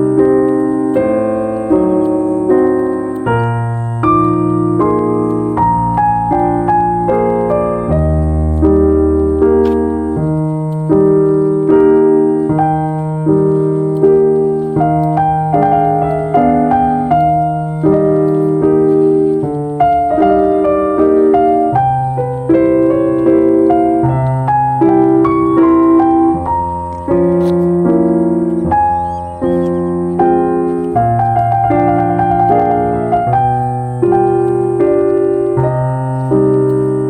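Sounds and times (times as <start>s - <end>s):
slow gentle piano piece: 0.0s - 37.0s.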